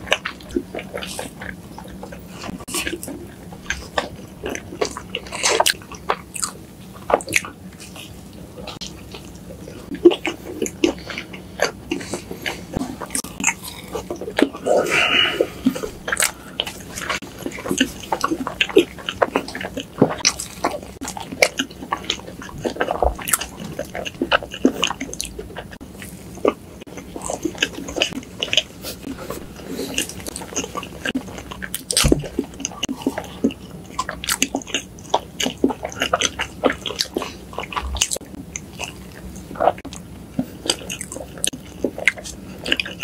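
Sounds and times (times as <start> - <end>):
chewing and biting soft cake: 0.0 - 43.0.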